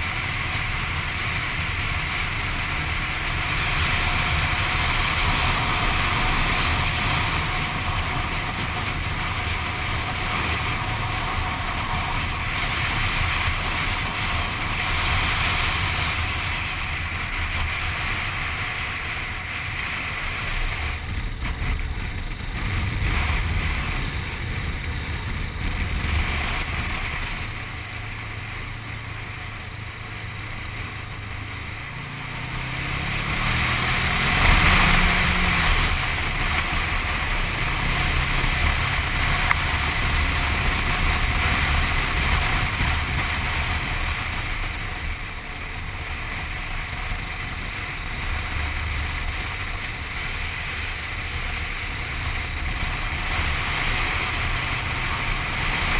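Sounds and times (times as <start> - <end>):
motorcycle engine accelerating: 0.0 - 55.9
wind rushing over microphone: 0.0 - 55.9.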